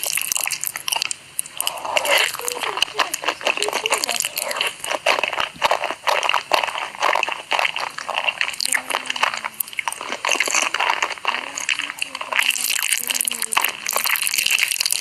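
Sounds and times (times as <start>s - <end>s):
crunchy bites and chewing: 0.0s - 15.0s.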